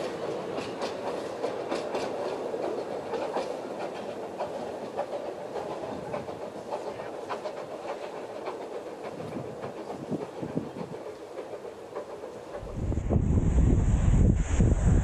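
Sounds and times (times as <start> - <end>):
wheels clicking over rail joints: 0.0 - 12.8
train coaches rumbling on track: 0.0 - 15.0.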